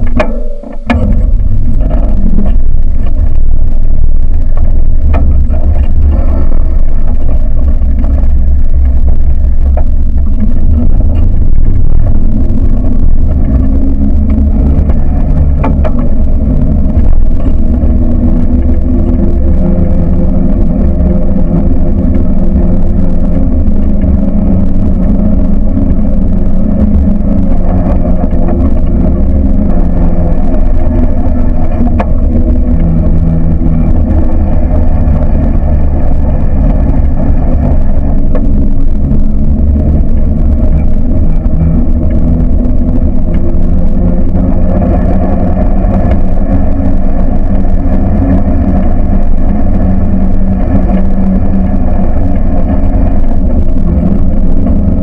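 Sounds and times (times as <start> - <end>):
buggy engine running: 0.0 - 55.0
heavy low rumble: 0.0 - 55.0.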